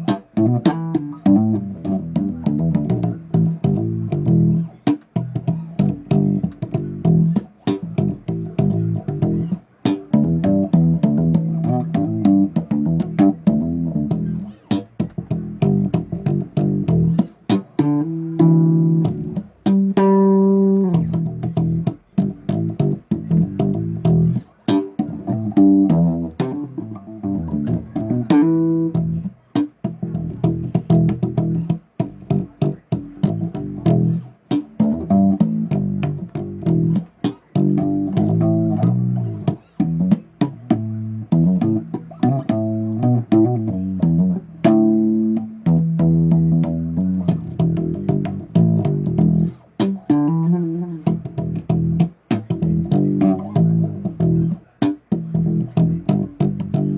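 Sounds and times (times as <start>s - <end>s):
bass guitar plucking: 0.0s - 56.9s.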